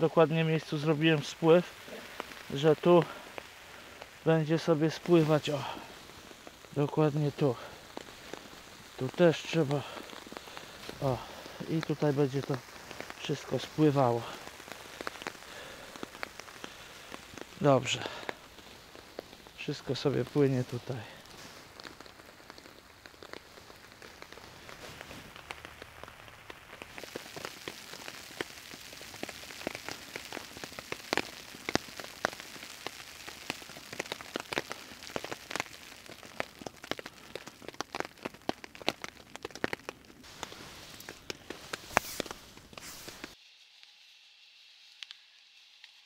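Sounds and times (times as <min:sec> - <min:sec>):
raindrops ticking close by: 0:00.0 - 0:43.4
rain hissing: 0:00.0 - 0:46.0.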